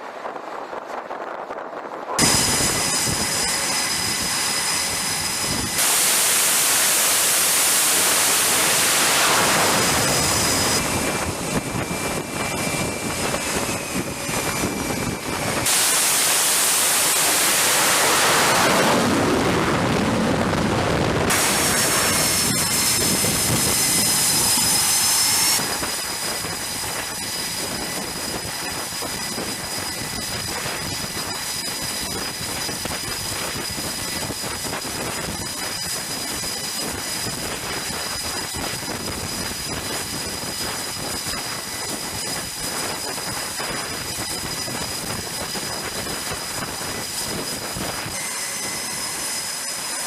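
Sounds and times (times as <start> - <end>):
high turbine whine: 0.0 - 50.0
jet engines rushing: 0.0 - 50.0.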